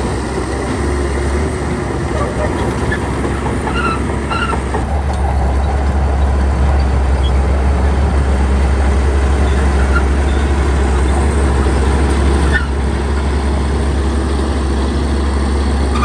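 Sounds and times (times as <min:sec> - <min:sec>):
diesel engine droning under load: 0:00.0 - 0:16.0.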